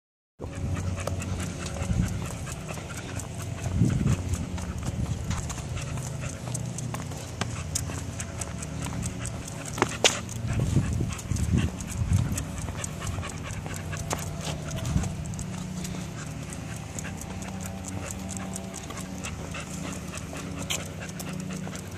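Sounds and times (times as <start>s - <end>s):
dog panting: 0.4s - 21.9s
footsteps on concrete: 0.5s - 21.9s.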